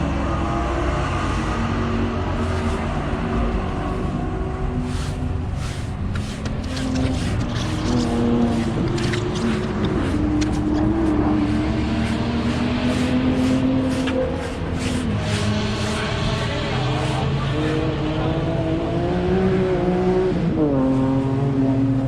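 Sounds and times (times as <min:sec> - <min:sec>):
race car engines rumbling: 0:00.0 - 0:22.0.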